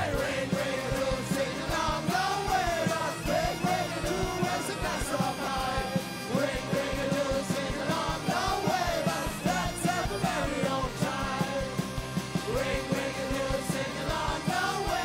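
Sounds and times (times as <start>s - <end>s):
acoustic and electric guitars: 0.0s - 15.0s
man singing: 0.0s - 15.0s
steady beat: 0.0s - 15.0s.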